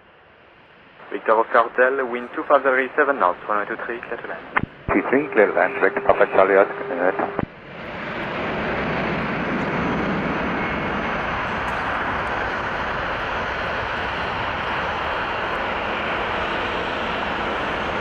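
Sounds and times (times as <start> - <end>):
jet engine rumble and hiss: 0.0 - 18.0.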